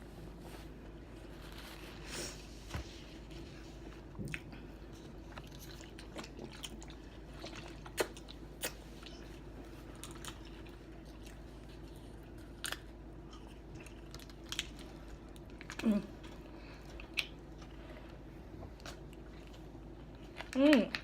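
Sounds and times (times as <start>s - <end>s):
faint steady hum: 0.0s - 21.0s
chewing and biting sandwich: 3.2s - 20.6s.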